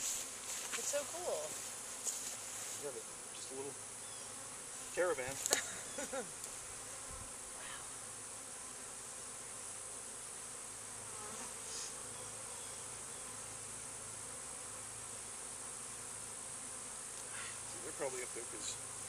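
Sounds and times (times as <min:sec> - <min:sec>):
bee swarm buzzing: 0:00.0 - 0:19.0.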